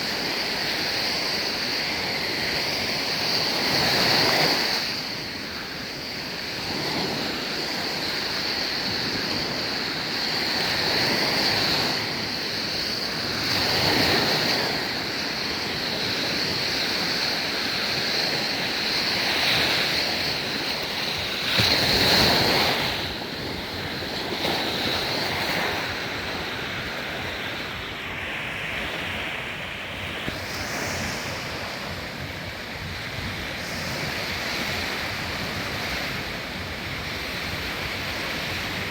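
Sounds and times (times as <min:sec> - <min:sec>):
waves breaking on a beach: 0:00.0 - 0:38.9
wind on microphone: 0:00.0 - 0:38.9.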